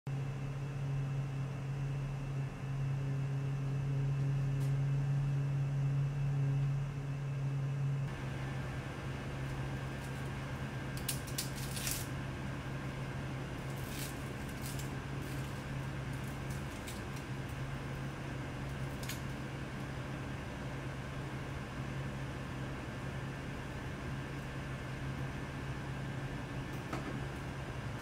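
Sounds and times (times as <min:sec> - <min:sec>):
low motor hum: 0:00.1 - 0:28.0.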